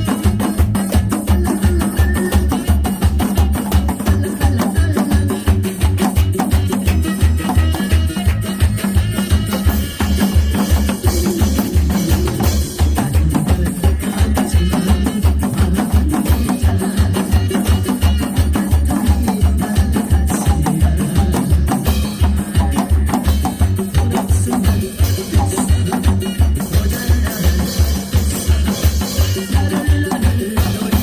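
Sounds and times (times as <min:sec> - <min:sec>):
instrumental music with driving beat: 0:00.0 - 0:31.0.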